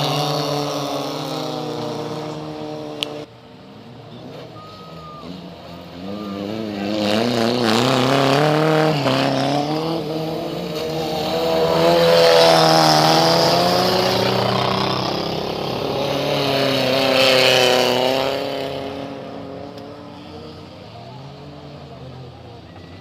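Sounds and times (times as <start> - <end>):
race cars passing by: 0.0 - 23.0.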